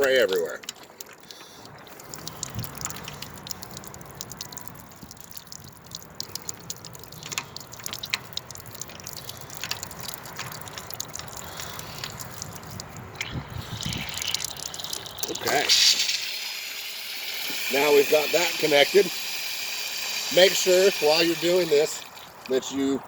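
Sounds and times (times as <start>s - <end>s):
water dripping and spattering: 0.0s - 23.0s.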